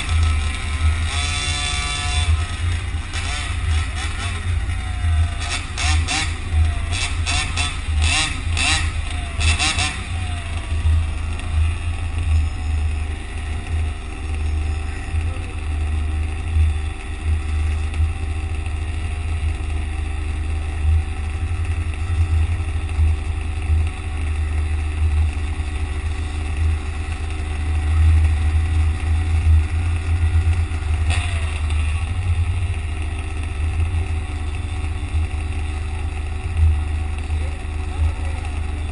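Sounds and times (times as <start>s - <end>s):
street traffic: 0.0s - 38.9s.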